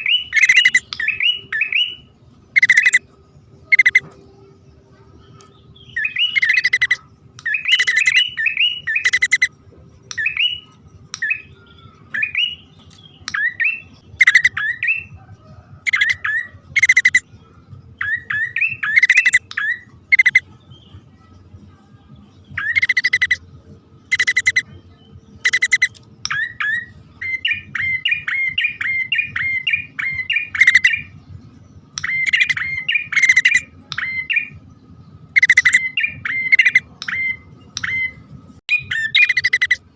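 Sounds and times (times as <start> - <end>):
birds chirping and scolding: 0.0 - 39.9.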